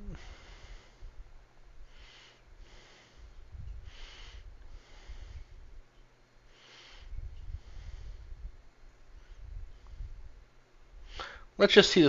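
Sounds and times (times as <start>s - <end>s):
soft breaths: 0.0s - 11.6s
faint low hum: 0.0s - 12.0s.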